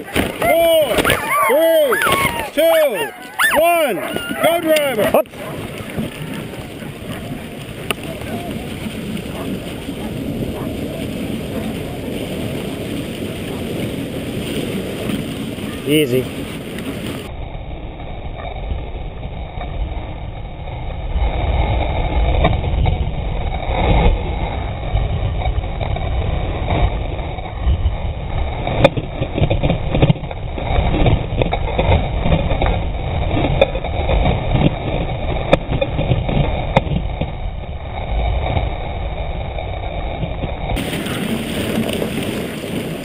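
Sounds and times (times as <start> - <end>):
sled rattling: 0.0 - 17.3, 18.1 - 43.0
sled runners scraping on snow: 0.0 - 17.3, 20.0 - 43.0.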